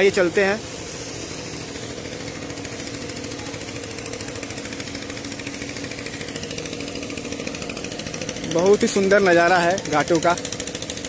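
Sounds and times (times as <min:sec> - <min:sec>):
machine rattling: 0:00.0 - 0:11.0.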